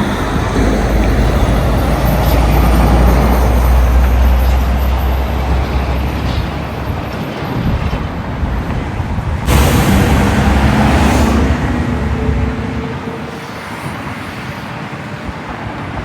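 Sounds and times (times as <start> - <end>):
diesel engine rumble: 0.0 - 14.6
trucks driving past: 0.0 - 16.0.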